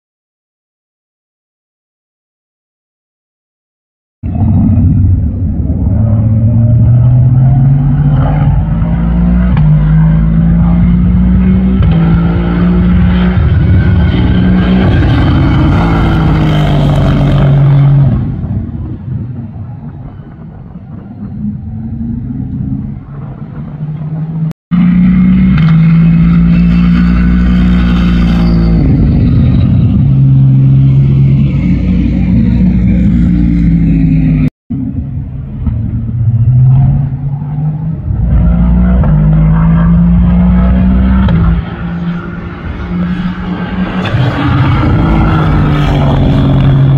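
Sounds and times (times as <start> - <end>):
racing car engine accelerating: 4.2 - 19.1, 21.3 - 46.9.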